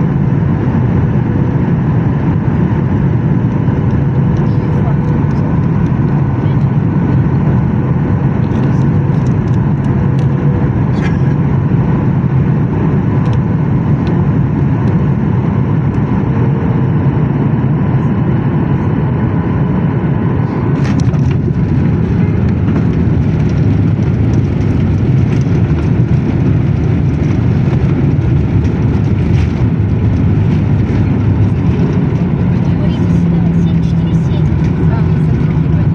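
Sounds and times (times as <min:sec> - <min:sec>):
jet plane landing rumble: 0:00.0 - 0:35.9.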